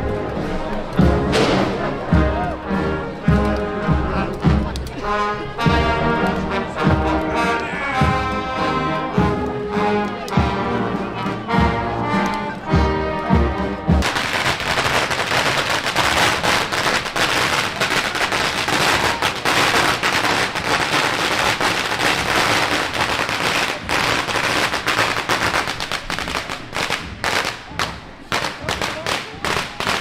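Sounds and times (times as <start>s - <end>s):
firecrackers going off: 0.0s - 30.0s.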